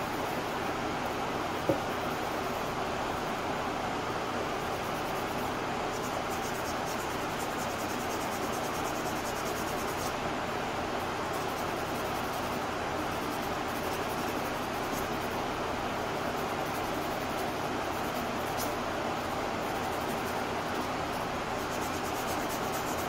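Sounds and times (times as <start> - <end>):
ventilation fan rushing air: 0.0 - 23.0.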